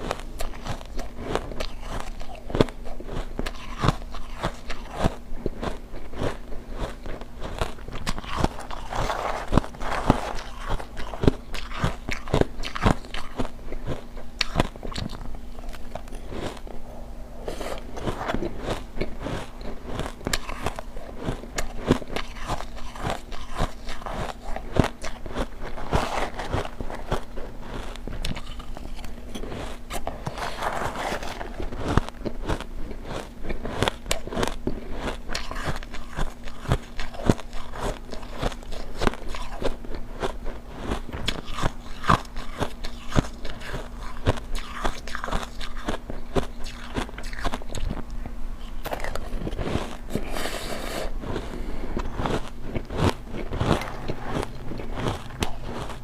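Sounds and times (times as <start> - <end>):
chewing ice crunches: 0.0 - 16.8, 17.4 - 56.0.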